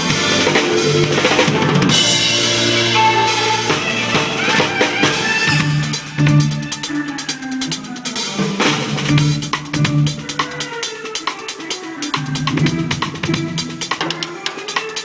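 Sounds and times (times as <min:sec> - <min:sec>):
heavy cymbal wash: 0:00.0 - 0:14.1
drum kit playing: 0:00.0 - 0:15.0
recorded band track: 0:00.0 - 0:15.0.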